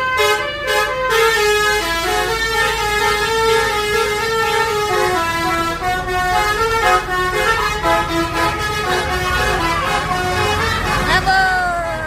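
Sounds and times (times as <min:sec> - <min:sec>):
musical bus horn melody: 0:00.0 - 0:12.0.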